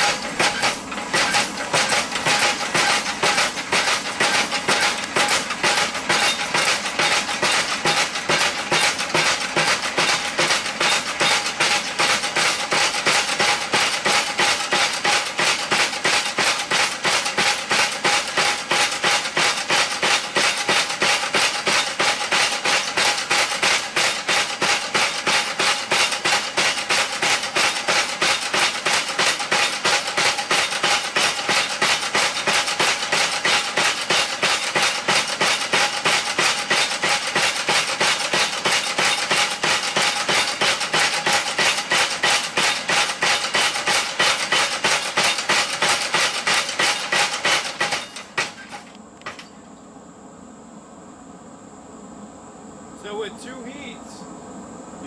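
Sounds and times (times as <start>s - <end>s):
steady motor hum: 0.0s - 49.0s
power hammer striking metal: 0.0s - 49.5s.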